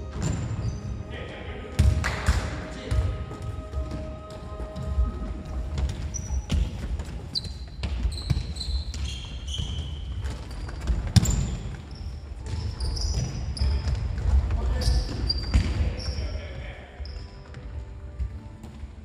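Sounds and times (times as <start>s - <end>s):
sneakers squeaking on floor: 0.0s - 1.1s, 2.8s - 19.0s.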